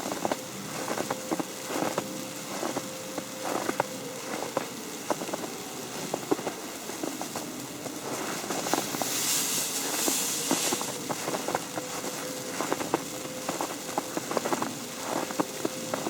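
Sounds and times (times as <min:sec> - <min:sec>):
snow pattering on an umbrella: 0:00.0 - 0:16.0
steady hiss: 0:00.0 - 0:16.0.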